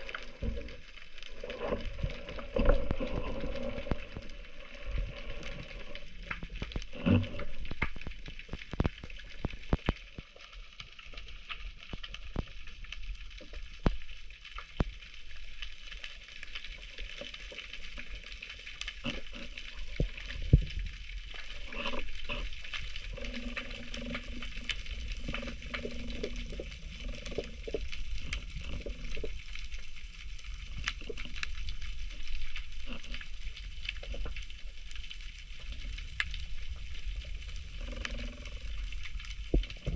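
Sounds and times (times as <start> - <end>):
low underwater rumble: 0.0 - 10.2, 16.7 - 39.9
underwater crackle and clicks: 0.0 - 39.9.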